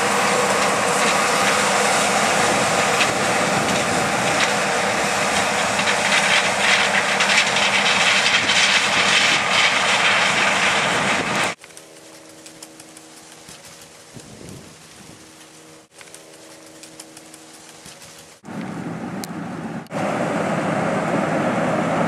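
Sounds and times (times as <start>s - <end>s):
harvest machinery running: 0.0s - 22.0s.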